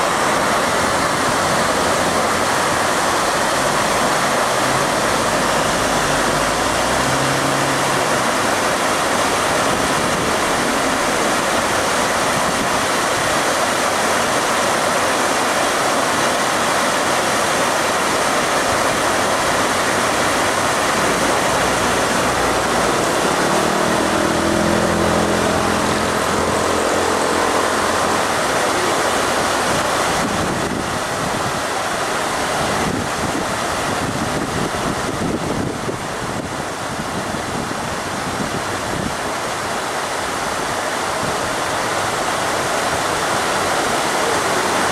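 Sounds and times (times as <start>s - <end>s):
low engine hum: 0.0s - 44.9s
water rushing along canal: 0.0s - 44.9s.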